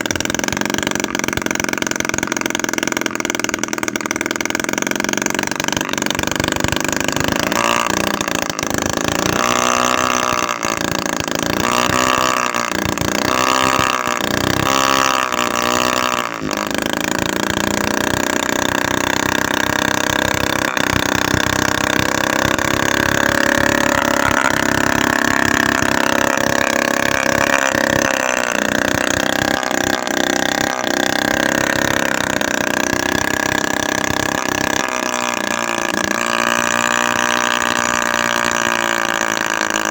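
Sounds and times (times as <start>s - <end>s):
small two-stroke engine running: 0.0s - 39.9s.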